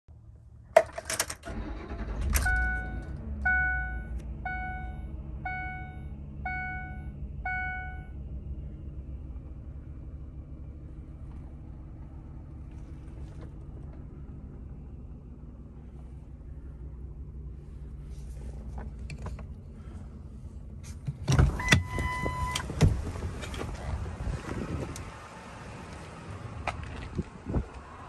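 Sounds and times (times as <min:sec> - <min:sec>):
truck engine cranking and idling: 0:00.6 - 0:28.0.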